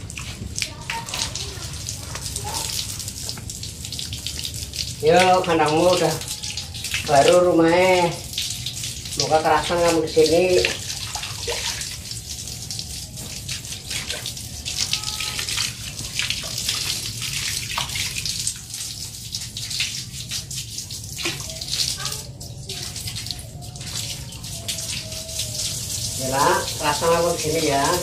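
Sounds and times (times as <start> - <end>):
hose water splashing into pool: 0.0 - 28.0.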